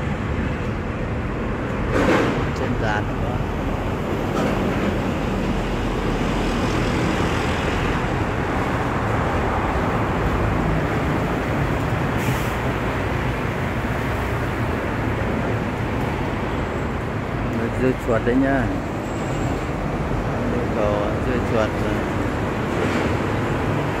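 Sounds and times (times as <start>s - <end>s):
rushing outdoor noise: 0.0s - 24.0s.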